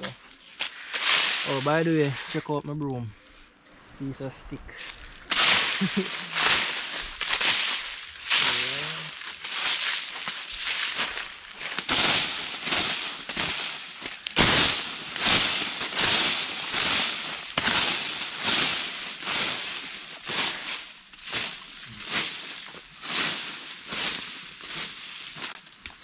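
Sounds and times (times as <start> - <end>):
broom sweeping dry leaves: 0.0 - 2.5, 4.8 - 26.0.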